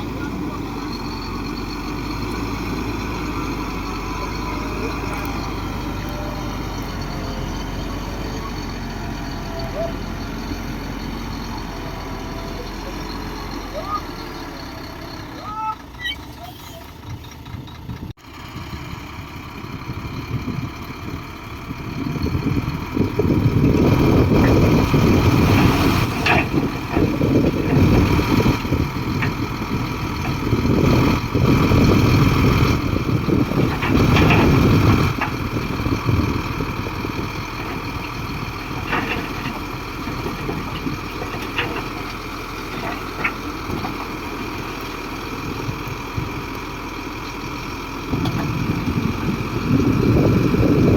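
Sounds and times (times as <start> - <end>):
heavy diesel engine labouring: 0.0 - 50.9.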